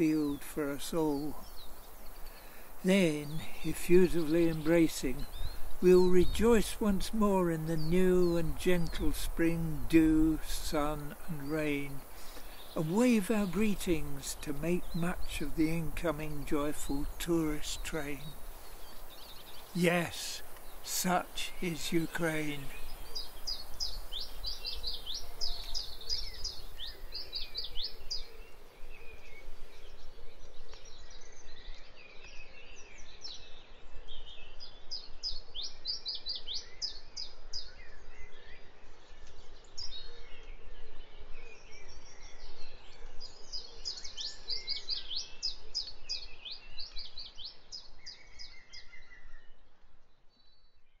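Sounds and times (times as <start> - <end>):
songbird singing rapid phrase: 0.0 - 38.4, 41.2 - 49.4
birds chirping faintly: 0.0 - 51.0.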